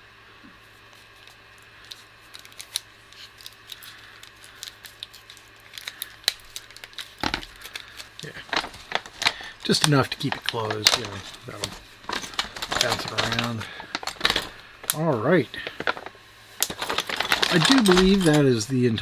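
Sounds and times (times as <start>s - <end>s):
plastic bag crinkling: 1.3s - 19.0s.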